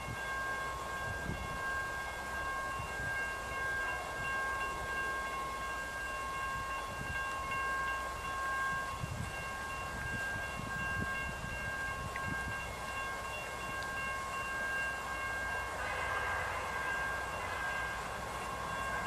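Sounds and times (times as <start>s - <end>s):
railroad crossing bell ringing: 0.0s - 19.0s.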